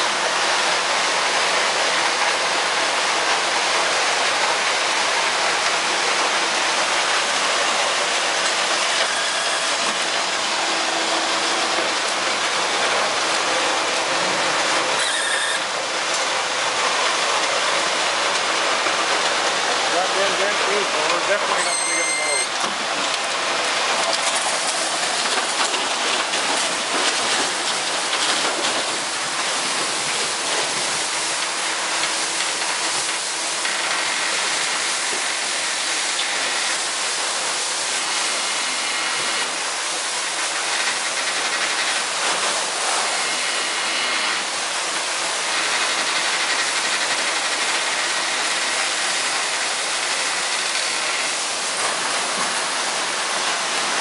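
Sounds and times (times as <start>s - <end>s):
wood chips pouring into trailer: 0.0s - 54.0s.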